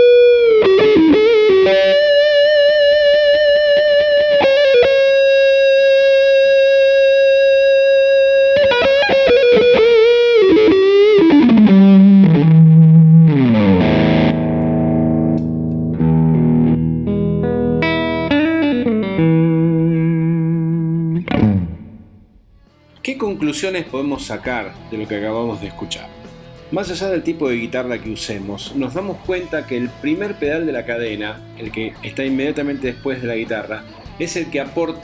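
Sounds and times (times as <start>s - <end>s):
distorted electric guitar: 0.0s - 35.0s.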